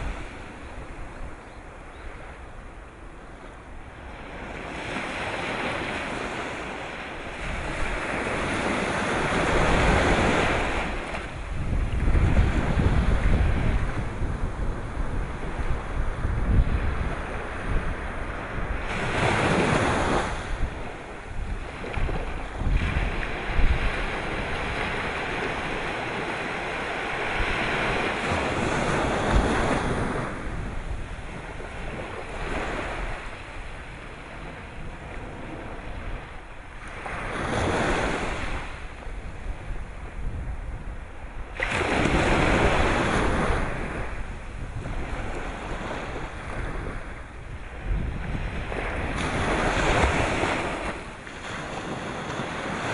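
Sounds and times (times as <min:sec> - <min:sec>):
sea waves breaking: 0:00.0 - 0:52.9
wind buffeting microphone: 0:00.0 - 0:52.9.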